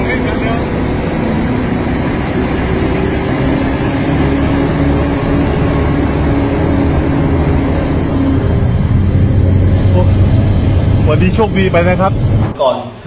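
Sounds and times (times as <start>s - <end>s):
train diesel engine droning: 0.0s - 13.0s.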